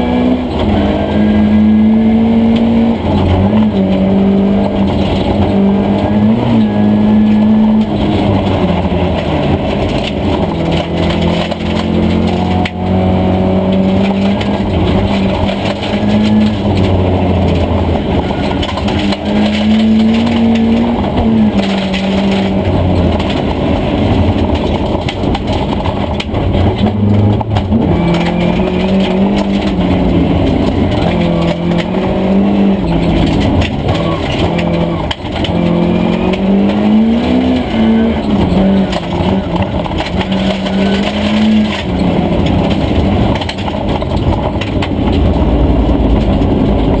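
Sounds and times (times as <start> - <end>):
gravel rattling underneath car: 0.0 - 47.0
rally car engine revving: 0.0 - 47.0.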